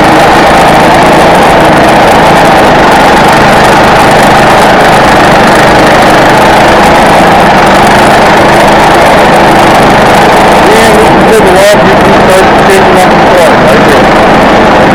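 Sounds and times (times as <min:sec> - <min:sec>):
saw cutting through log: 0:00.0 - 0:14.9.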